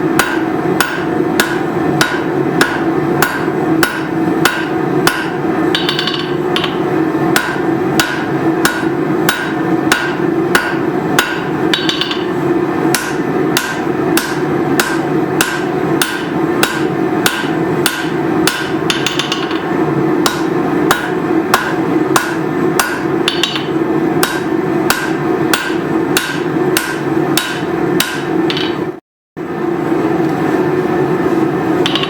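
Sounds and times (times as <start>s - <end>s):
steady hum: 0.0s - 32.0s
hammer blows on anvil: 0.1s - 28.9s.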